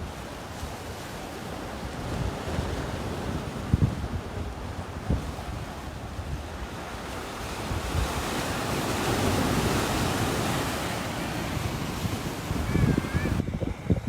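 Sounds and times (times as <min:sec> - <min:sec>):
waves washing on shore: 0:00.0 - 0:14.0
wind buffeting microphone: 0:00.0 - 0:14.0.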